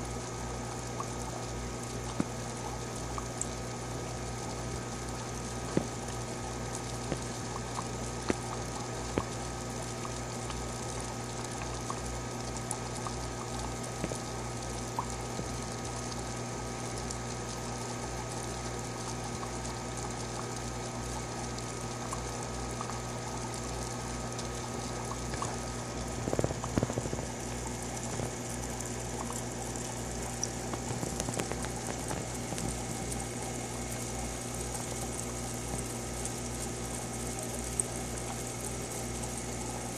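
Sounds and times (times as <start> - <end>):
aquarium filter pump hum: 0.0 - 39.9
water trickling: 0.0 - 39.9.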